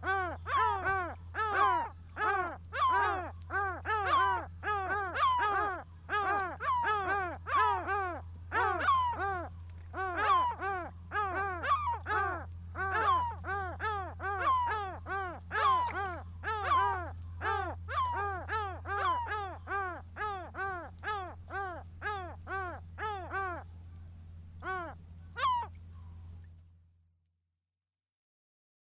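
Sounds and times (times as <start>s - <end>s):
seagulls calling: 0.0s - 23.7s, 24.6s - 26.2s
steady low hum: 0.0s - 27.3s.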